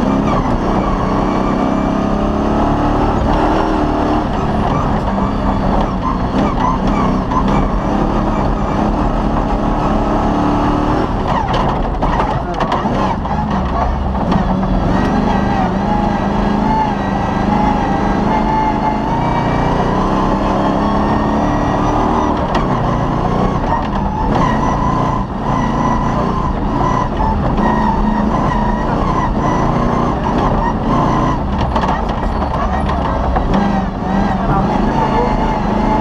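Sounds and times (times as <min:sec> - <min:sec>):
car knocks and rattles: 0:00.0 - 0:19.4, 0:20.1 - 0:36.0
rally car engine revving: 0:00.0 - 0:36.0.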